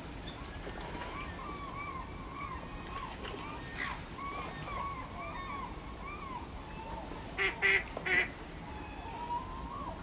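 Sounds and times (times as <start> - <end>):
softer bird calls: 0.2 - 10.0
waterbird calling loudly: 1.0 - 10.0.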